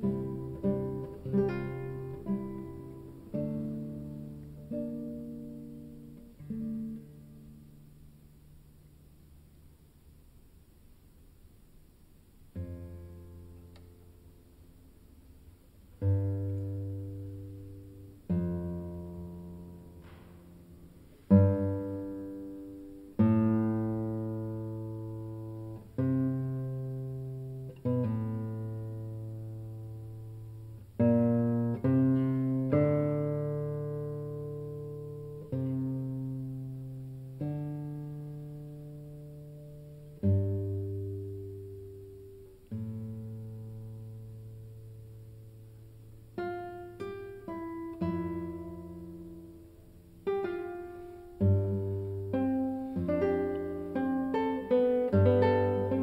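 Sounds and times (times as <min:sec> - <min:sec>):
classical guitar plucked chords: 0:00.0 - 0:56.0.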